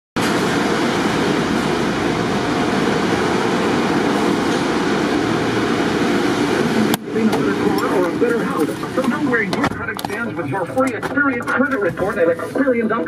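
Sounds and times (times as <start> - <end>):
car wash machinery rushing: 0.2 - 13.0.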